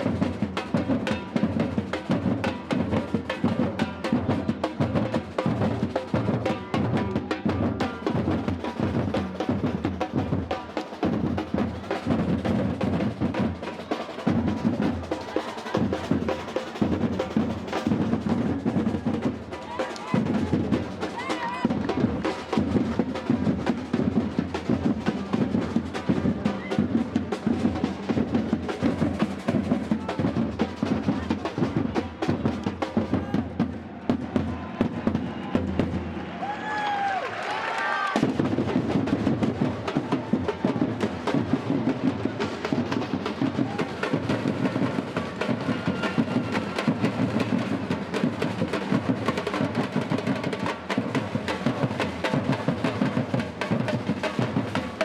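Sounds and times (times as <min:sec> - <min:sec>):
percussion ensemble drumming: 0:00.0 - 0:55.0
snare drums: 0:00.0 - 0:55.0.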